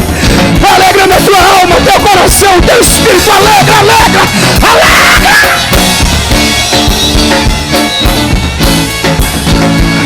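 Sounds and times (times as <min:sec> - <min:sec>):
drum kit beat: 0:00.0 - 0:10.0
gospel band playing: 0:00.0 - 0:10.0.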